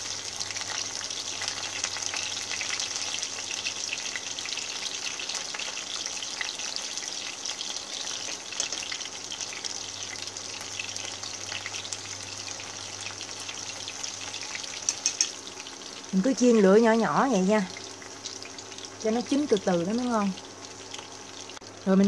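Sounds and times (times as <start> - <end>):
oil sizzling: 0.0 - 22.0.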